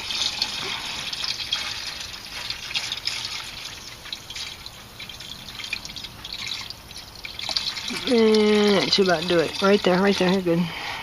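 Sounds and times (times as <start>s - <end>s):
liquid pouring from a jug: 0.0s - 10.8s.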